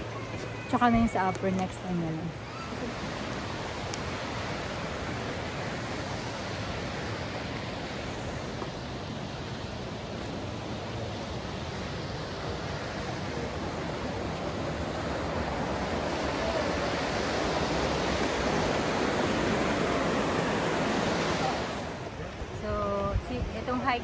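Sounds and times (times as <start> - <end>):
fast water rushing: 1.8 - 24.0.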